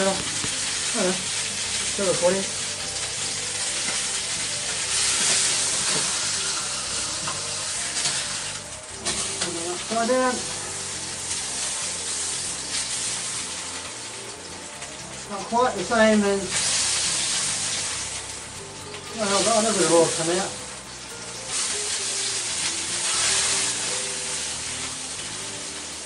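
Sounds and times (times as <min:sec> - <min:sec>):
meat sizzling in a wok: 0:00.0 - 0:26.0.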